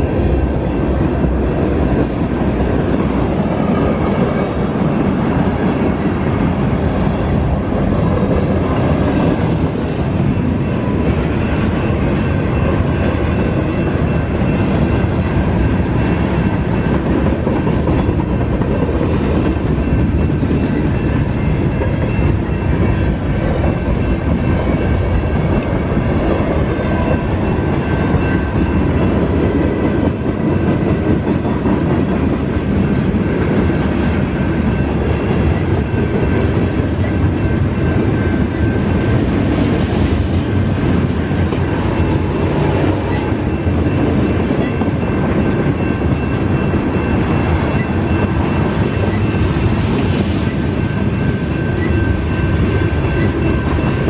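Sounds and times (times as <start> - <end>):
crossing bells ringing: 0.0 - 54.0
freight train rolling: 0.0 - 54.0.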